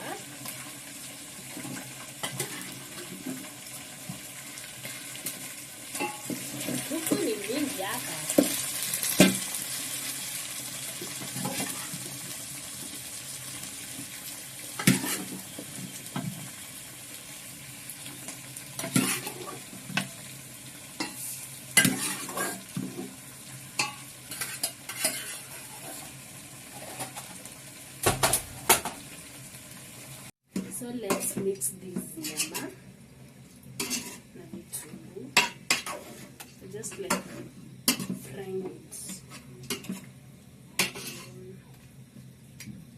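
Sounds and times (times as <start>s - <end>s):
chicken frying sizzle: 0.0s - 42.9s.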